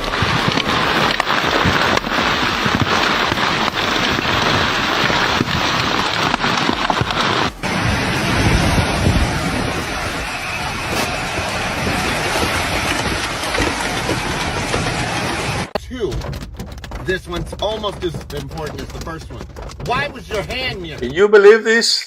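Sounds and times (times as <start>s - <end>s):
hailstones and rain striking surfaces: 0.0s - 21.2s
deeper noise: 0.0s - 21.4s.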